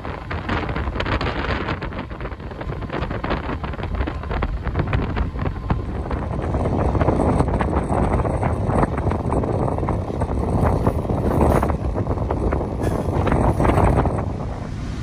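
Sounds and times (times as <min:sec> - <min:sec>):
wheels clicking over rail joints: 0:00.0 - 0:14.8
train rolling rumble: 0:00.0 - 0:15.0
wind buffeting microphone: 0:00.0 - 0:15.0.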